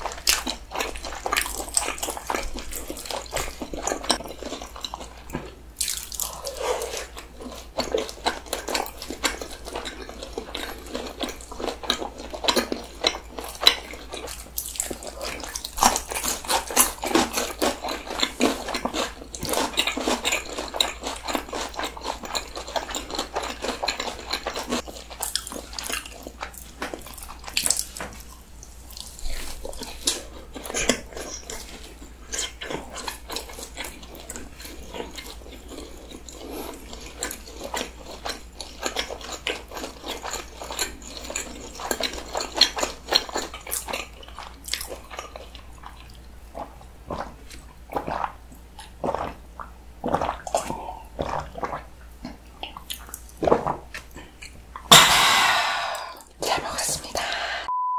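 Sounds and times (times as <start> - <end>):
chewing snack food: 0.0 - 57.4.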